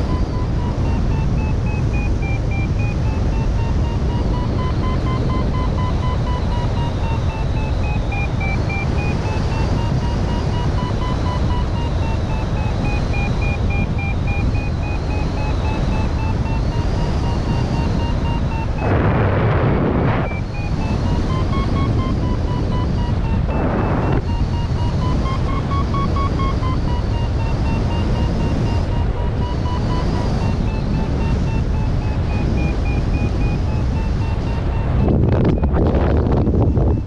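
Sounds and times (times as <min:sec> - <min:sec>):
variometer fast beeping: 0:00.0 - 0:37.0
wind rushing over microphone: 0:00.0 - 0:37.0.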